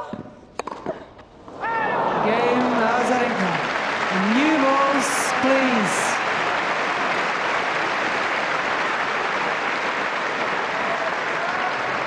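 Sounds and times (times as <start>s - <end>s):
crowd applauding: 1.6s - 12.0s.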